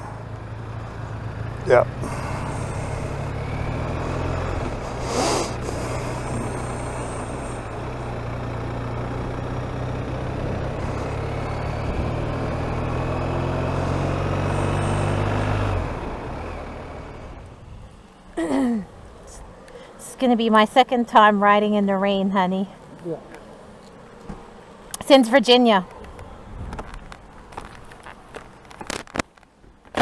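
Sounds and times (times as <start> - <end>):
motorcycle engine running: 0.0 - 29.1
wind and road noise: 0.0 - 30.0.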